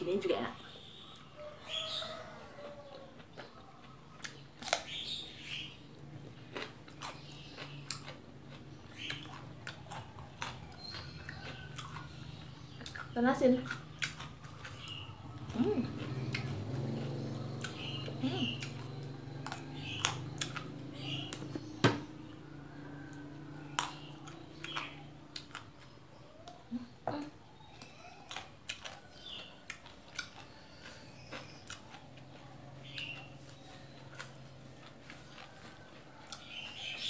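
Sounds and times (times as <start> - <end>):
person chewing: 1.0 - 21.6, 22.5 - 26.8, 27.6 - 37.0.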